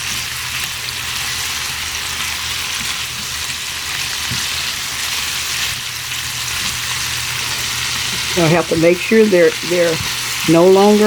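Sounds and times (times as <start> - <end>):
shrimp sizzling in butter: 0.0 - 11.0.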